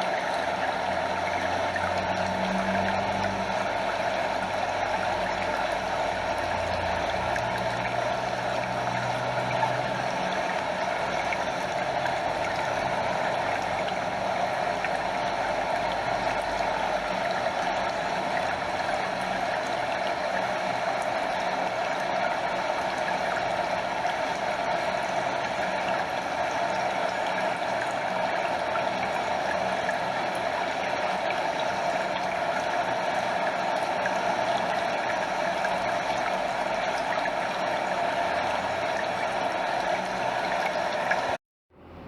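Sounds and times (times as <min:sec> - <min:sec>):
stream over small waterfall: 0:00.0 - 0:41.4.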